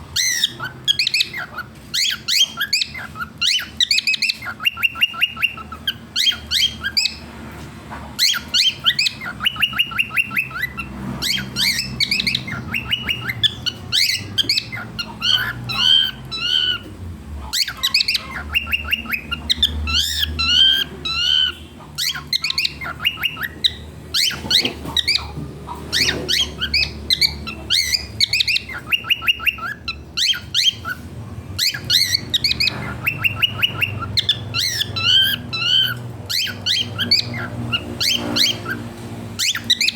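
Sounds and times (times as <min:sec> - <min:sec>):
cockatiel chirping: 0:00.1 - 0:07.3, 0:08.2 - 0:39.9.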